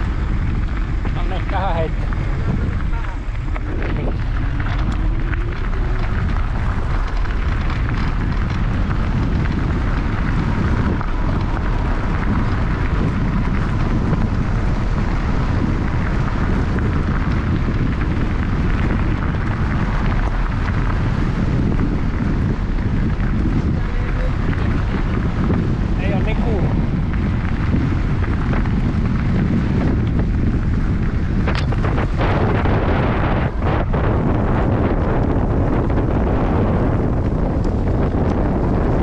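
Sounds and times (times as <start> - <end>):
bike tyres crunching on gravel: 0.0 - 39.0
wind buffeting microphone: 0.0 - 39.0.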